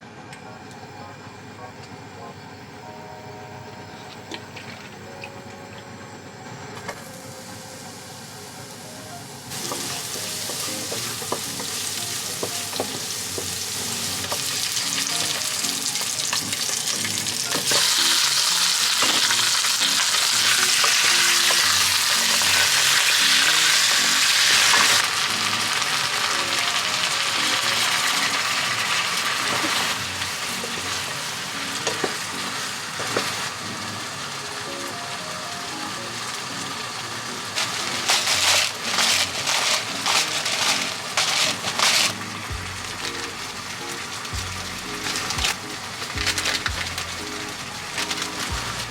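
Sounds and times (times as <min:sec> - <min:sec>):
chicken sizzling in a pan: 0:07.0 - 0:48.9.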